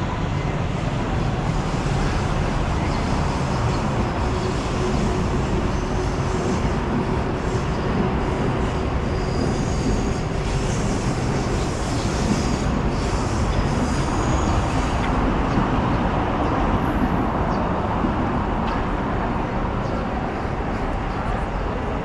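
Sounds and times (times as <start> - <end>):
city street traffic: 0.0 - 22.0
passing train rumble: 0.0 - 22.0.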